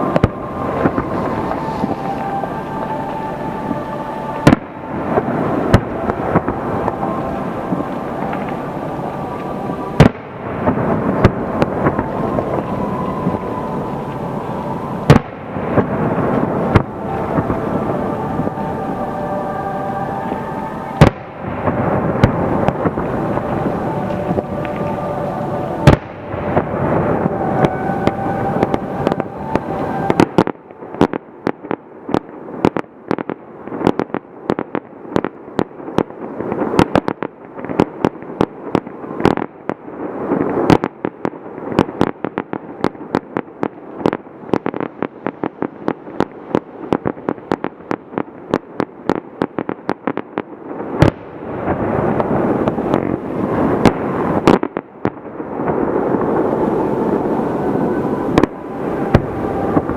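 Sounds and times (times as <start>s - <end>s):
fireworks bangs: 0.0s - 59.9s
fireworks crackle: 0.0s - 59.9s.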